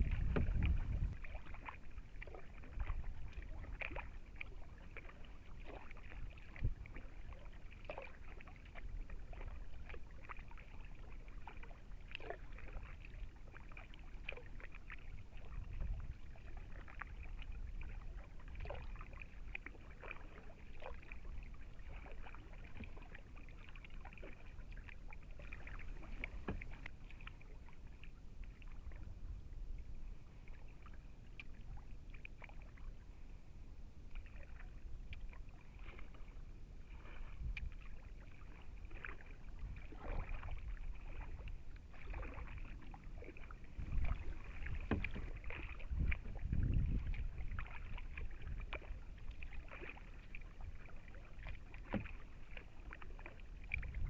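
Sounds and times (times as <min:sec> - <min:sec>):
small splashes and drips: 0:00.0 - 0:29.1, 0:30.1 - 0:33.3, 0:34.1 - 0:54.0
kayak paddle strokes in water: 0:00.0 - 0:54.0.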